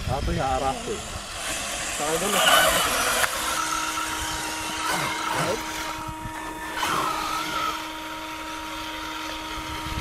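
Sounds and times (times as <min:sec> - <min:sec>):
electric toy car motors whining: 0:00.1 - 0:10.0.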